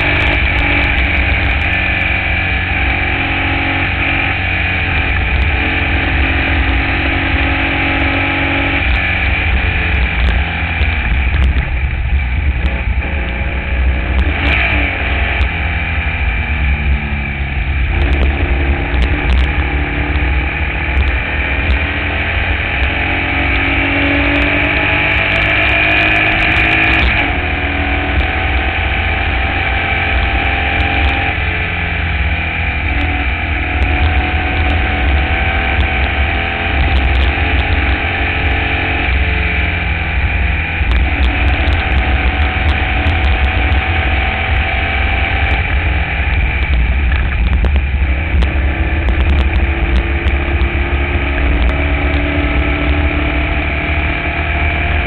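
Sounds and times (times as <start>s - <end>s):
race car engine revving: 0.0s - 55.0s
wind rumble on microphone: 0.0s - 55.0s.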